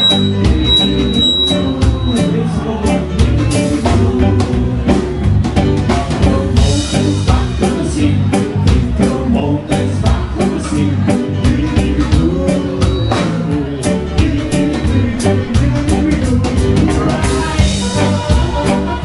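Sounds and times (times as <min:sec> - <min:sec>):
person singing into microphone: 0:00.0 - 0:05.1, 0:06.1 - 0:19.0
drum kit beating steady rhythm: 0:00.0 - 0:19.0.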